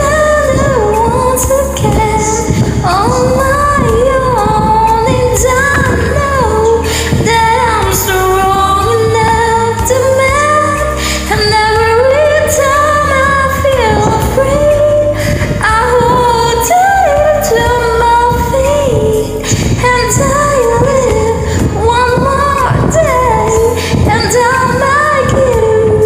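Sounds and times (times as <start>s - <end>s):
pop backing track: 0.0s - 26.0s
woman singing: 0.0s - 26.0s.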